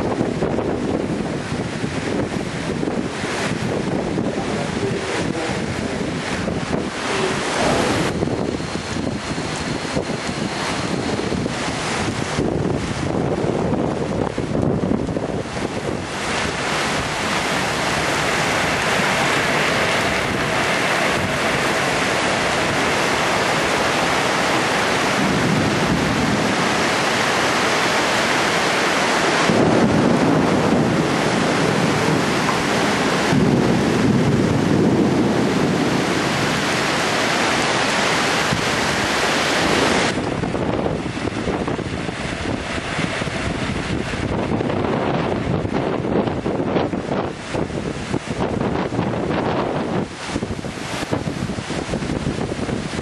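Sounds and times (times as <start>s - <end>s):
torrential rain: 0.0s - 53.0s.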